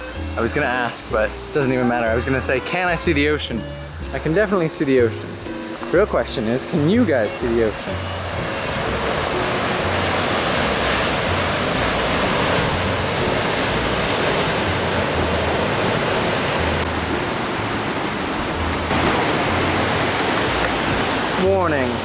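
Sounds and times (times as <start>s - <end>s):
falling water and surf rushing: 0.0s - 22.0s.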